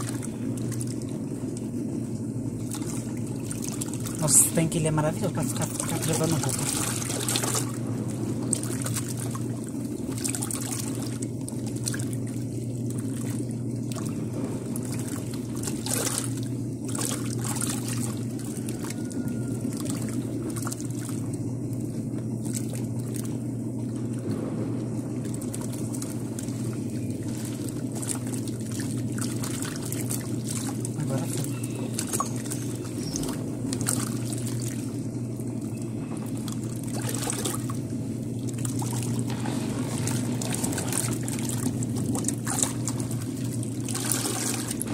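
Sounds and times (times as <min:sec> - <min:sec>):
motor humming: 0:00.0 - 0:44.9
water sloshing in washing machine: 0:00.0 - 0:44.9.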